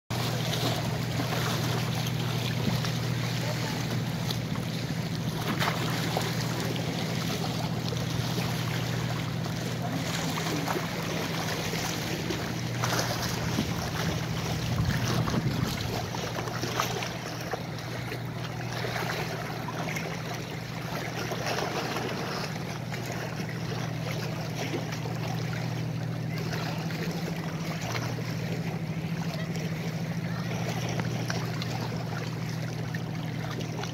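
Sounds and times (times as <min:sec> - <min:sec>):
steady low hum: 0:00.1 - 0:33.9
waves lapping against rocks: 0:00.1 - 0:33.9.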